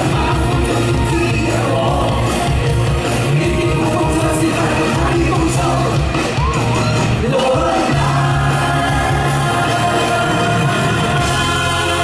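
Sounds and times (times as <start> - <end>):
person singing through pa: 0.0 - 6.5, 7.2 - 12.0
live band playing pop song: 0.0 - 12.0.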